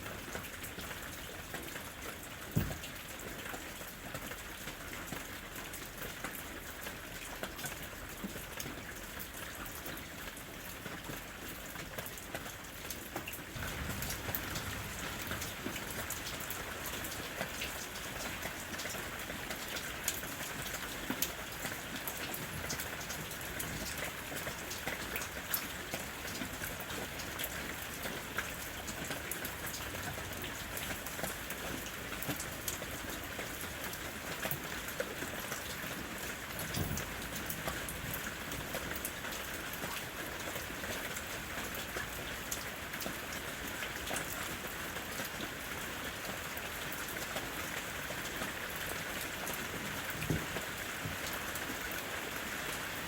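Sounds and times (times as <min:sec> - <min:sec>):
rain drops falling in forest: 0:00.0 - 0:53.0.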